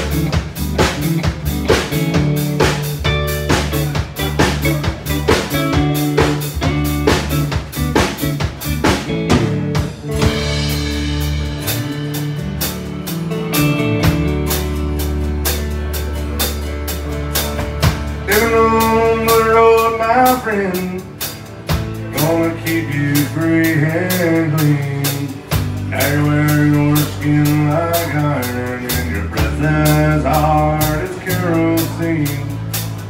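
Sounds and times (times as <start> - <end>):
band playing steady beat: 0.0 - 33.0
sustained melody line: 0.0 - 33.0.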